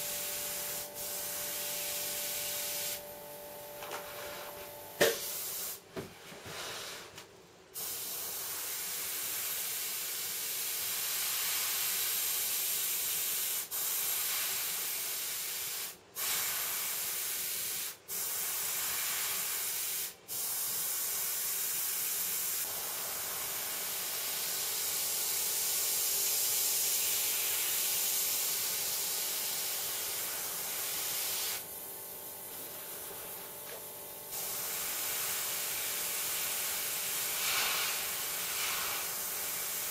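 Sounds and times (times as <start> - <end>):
airbrush spraying hiss: 0.0 - 5.8, 7.8 - 39.9.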